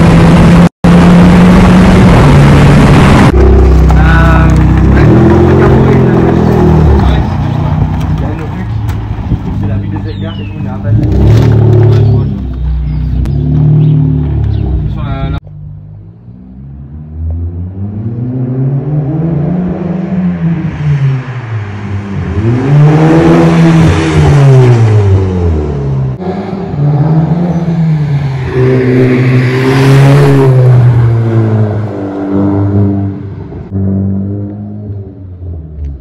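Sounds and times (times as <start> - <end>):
car accelerating with loud exhaust: 0.0 - 36.0.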